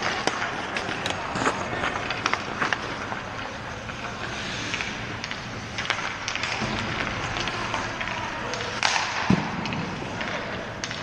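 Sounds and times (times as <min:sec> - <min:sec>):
hockey sticks and pucks clacking: 0:00.0 - 0:11.0
skates scraping on ice: 0:00.0 - 0:11.0.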